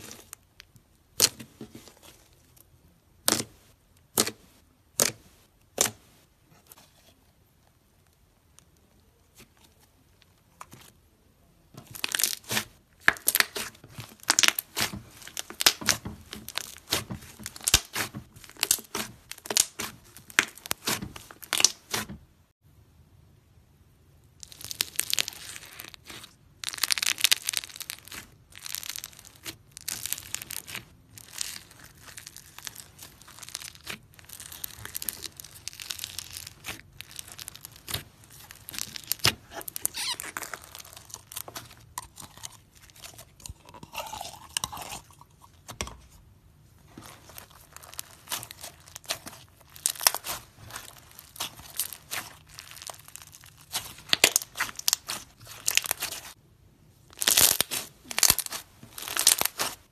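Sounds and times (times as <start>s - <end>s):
hands squishing slime: 0.0s - 2.6s, 3.2s - 6.1s, 11.7s - 22.2s, 24.4s - 46.2s, 46.8s - 56.4s, 57.1s - 59.9s
foam bead slime crunching: 0.0s - 6.0s, 11.7s - 22.2s, 24.4s - 56.4s, 57.0s - 59.9s.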